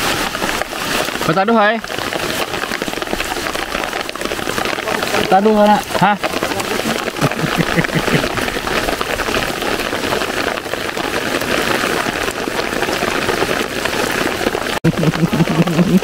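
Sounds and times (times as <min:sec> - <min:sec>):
heavy rain on water: 0:00.0 - 0:16.0.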